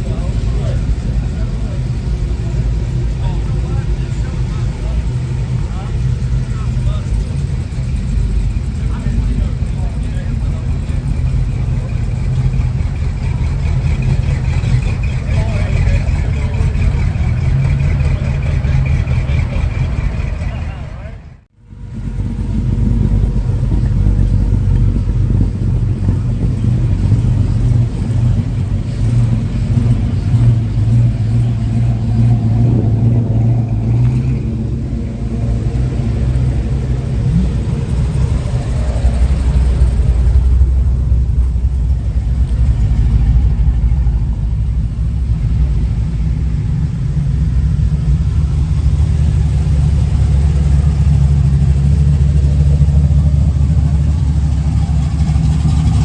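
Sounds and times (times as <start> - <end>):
vehicle engine running loudly: 0.0 - 56.0.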